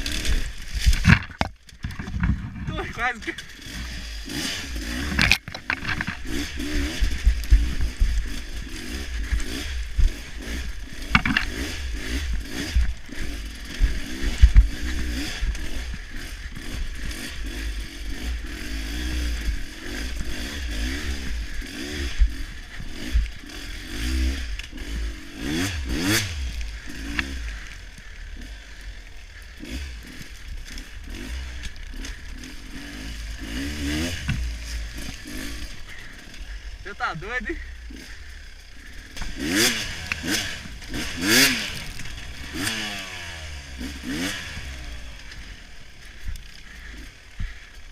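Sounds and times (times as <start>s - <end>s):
motorcycle rattling and knocking: 0.0s - 28.2s, 29.6s - 47.9s
motorcycle engine revving: 0.0s - 47.9s.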